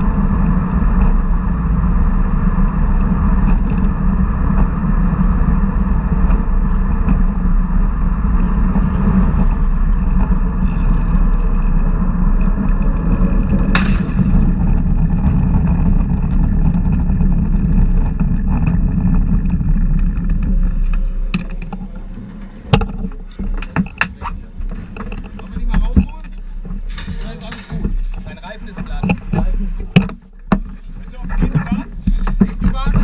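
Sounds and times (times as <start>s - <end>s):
rushing wind and road noise: 0.0s - 33.0s.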